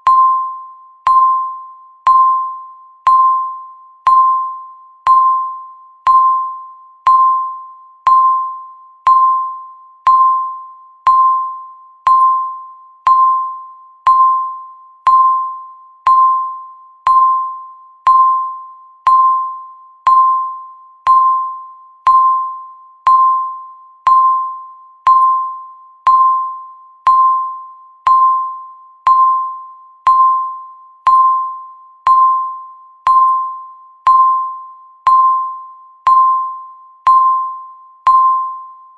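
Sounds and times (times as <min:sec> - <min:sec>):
timer electronic beeps: 0:00.0 - 0:38.9.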